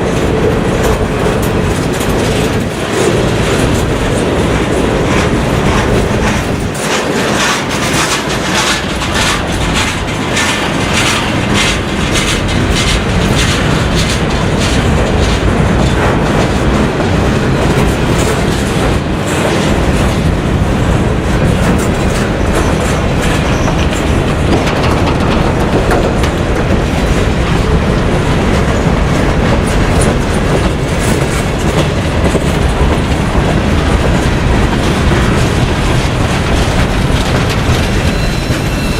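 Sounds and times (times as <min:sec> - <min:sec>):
freight train rumbling past: 0:00.0 - 0:38.9
train wheels clicking on rail joints: 0:00.0 - 0:38.9.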